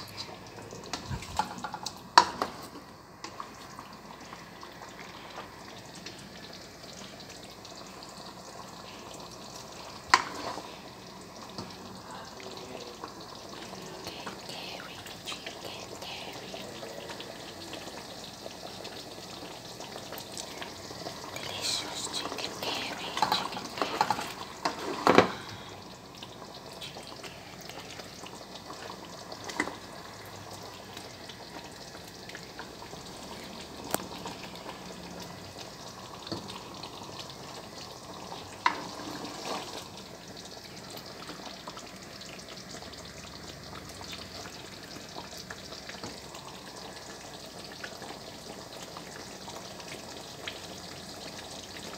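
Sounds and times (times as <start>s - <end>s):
curry sizzling in a pan: 0.0s - 51.9s.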